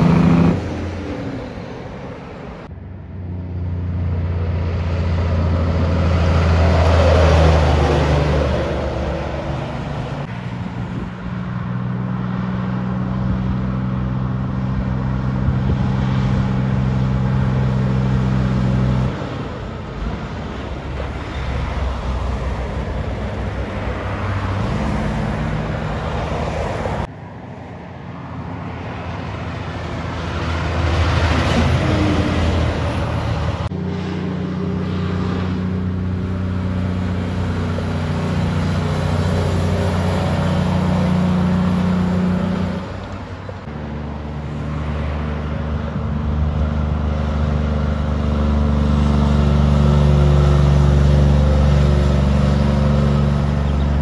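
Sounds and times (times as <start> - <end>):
diesel trucks passing: 0.0 - 54.0
tyre and road noise: 0.0 - 54.0.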